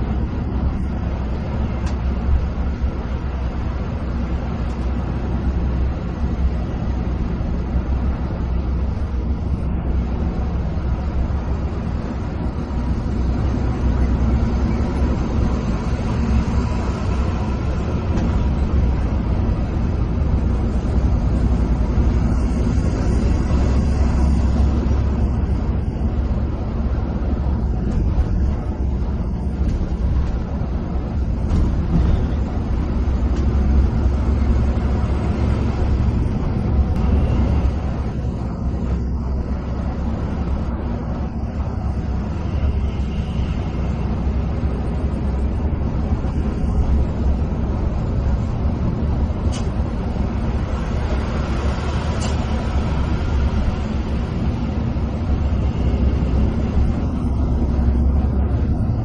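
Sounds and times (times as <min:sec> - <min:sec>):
bus engine drone: 0:00.0 - 0:59.0
tyre and road rumble: 0:00.0 - 0:59.0.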